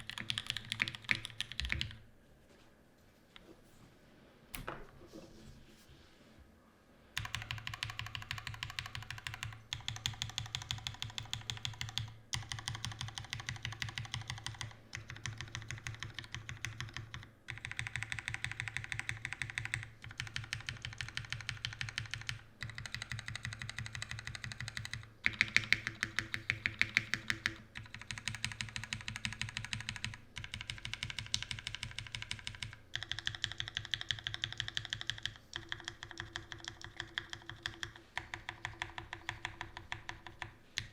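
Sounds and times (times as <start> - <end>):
fast mechanical keyboard typing: 0.0 - 2.0, 7.2 - 40.9.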